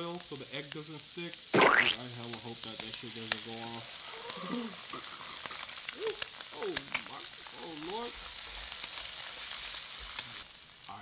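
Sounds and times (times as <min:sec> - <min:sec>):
egg frying in hot oil: 0:00.0 - 0:11.0.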